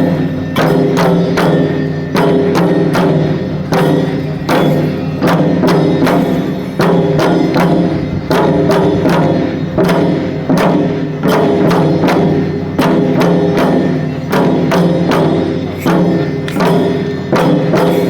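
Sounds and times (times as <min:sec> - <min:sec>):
drum strikes in fast rhythm: 0:00.0 - 0:18.0.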